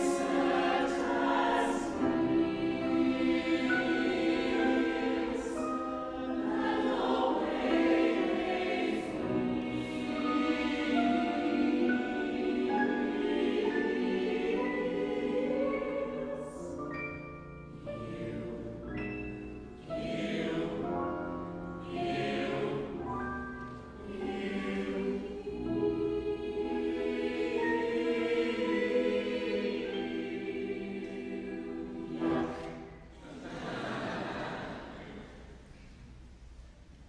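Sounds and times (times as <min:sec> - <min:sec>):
mixed choir singing: 0:00.0 - 0:16.8, 0:17.7 - 0:35.2.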